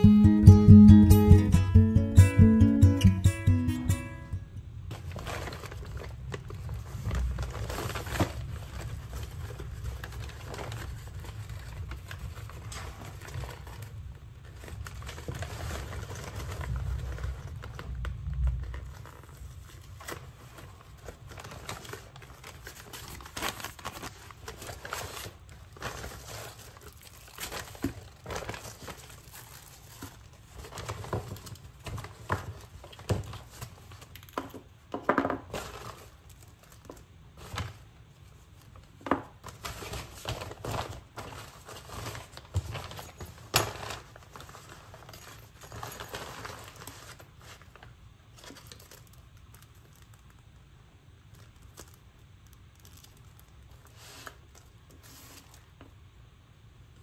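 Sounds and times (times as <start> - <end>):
paper and plastic packaging rustling: 4.9 - 56.1.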